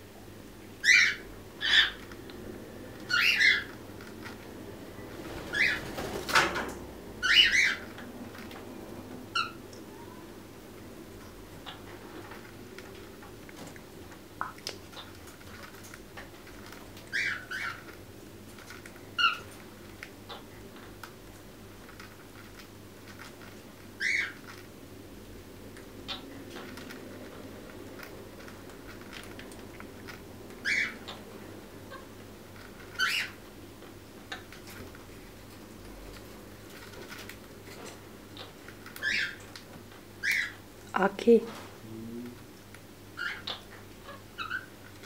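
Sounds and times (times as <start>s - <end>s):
room hum: 0.0s - 45.0s
parrots chirping softly: 0.7s - 6.2s, 7.2s - 8.7s, 9.3s - 24.8s, 25.7s - 40.8s, 42.2s - 45.0s.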